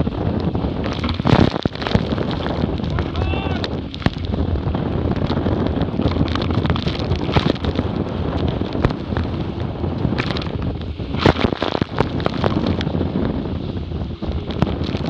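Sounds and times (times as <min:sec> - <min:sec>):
water rushing past hulls: 0:00.0 - 0:15.0
wind buffeting microphone: 0:00.0 - 0:15.0.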